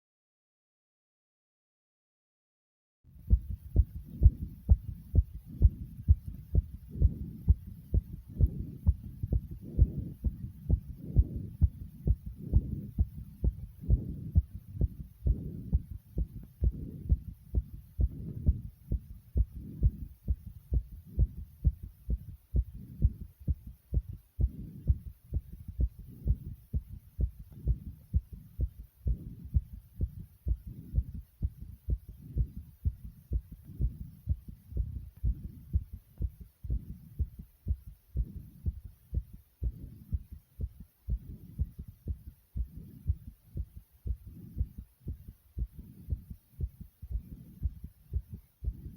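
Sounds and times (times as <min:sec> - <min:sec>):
heartbeat thumps: 0:03.2 - 0:48.9.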